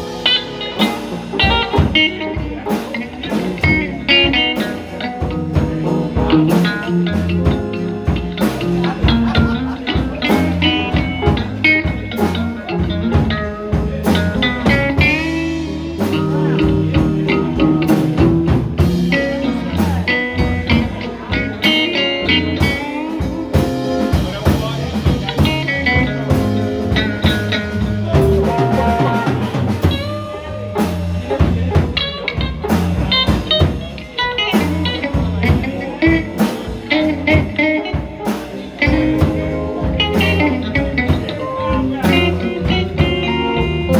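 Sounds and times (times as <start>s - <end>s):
electric guitar solo: 0.0s - 24.2s, 24.8s - 43.9s
blues band playing: 0.0s - 43.9s.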